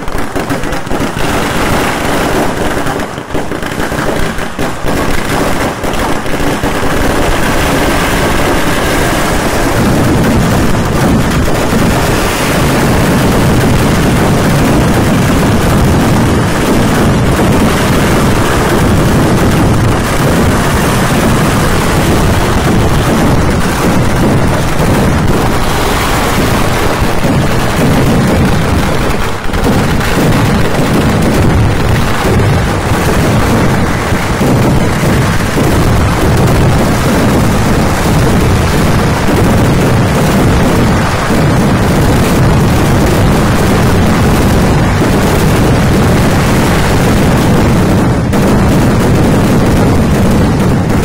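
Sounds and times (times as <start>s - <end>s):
firecrackers going off: 0.0s - 51.0s.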